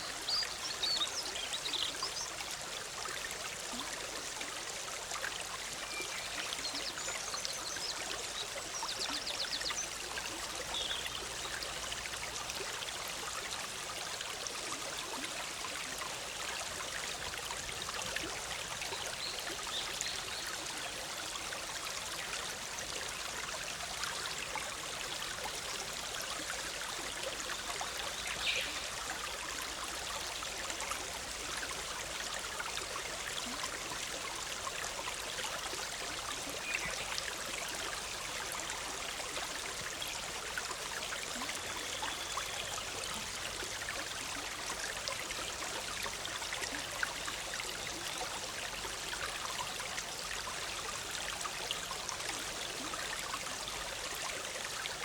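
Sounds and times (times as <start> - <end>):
stream bubbling over rocks: 0.0 - 55.0.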